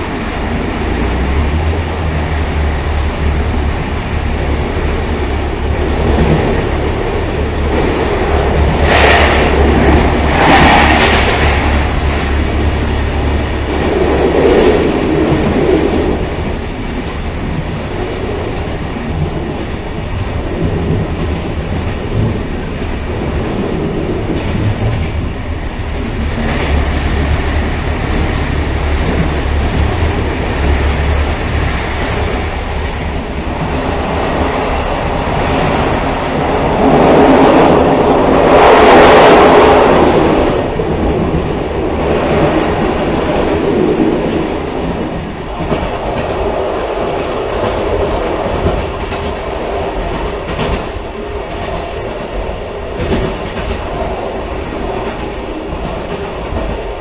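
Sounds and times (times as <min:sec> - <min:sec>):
railcar rumbling on track: 0:00.0 - 0:57.0.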